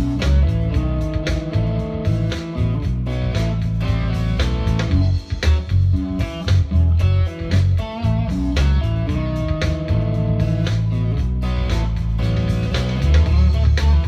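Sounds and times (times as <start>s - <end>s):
electric guitar melody: 0.0s - 14.0s.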